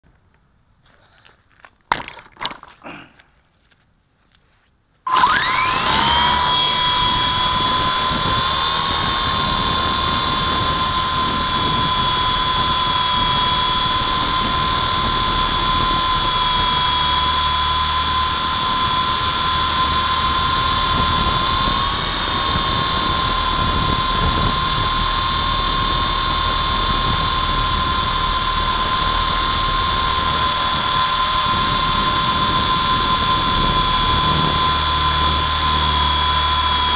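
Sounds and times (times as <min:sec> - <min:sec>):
helicopter rotor motor whine: 0:05.1 - 0:36.9.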